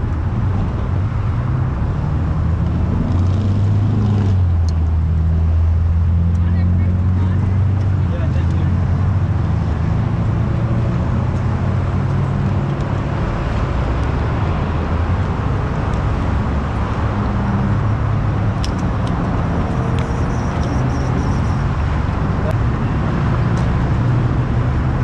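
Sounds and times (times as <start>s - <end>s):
highway traffic rumble: 0.0s - 25.0s.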